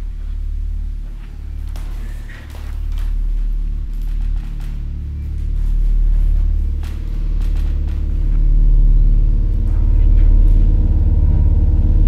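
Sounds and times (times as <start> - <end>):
deep low rumbling drone: 0.0 - 12.0.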